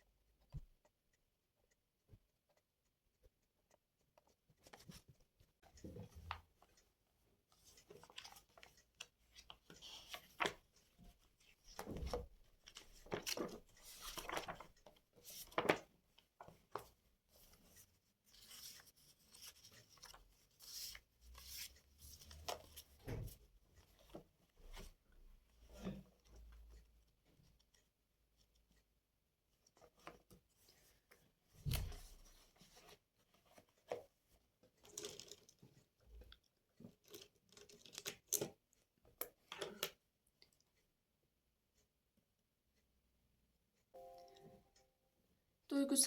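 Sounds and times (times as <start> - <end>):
objects handled with taps and scrapes: 1.6 - 28.9, 29.5 - 40.9.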